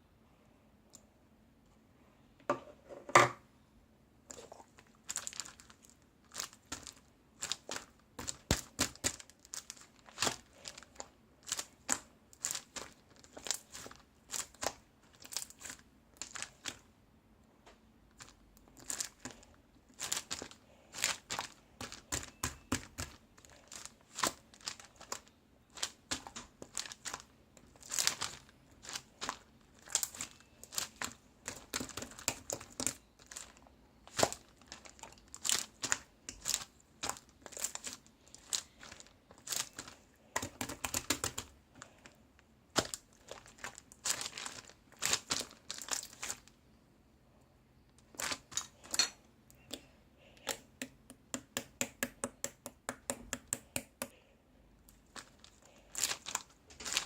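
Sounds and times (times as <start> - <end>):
plastic crinkling: 4.3 - 16.9, 18.1 - 46.6, 48.0 - 51.1, 54.9 - 57.0.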